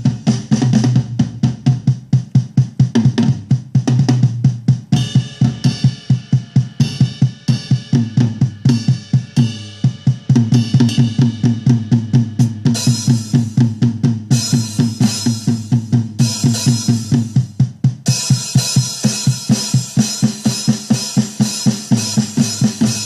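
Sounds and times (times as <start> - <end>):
programmed drum beat: 0.0 - 23.0.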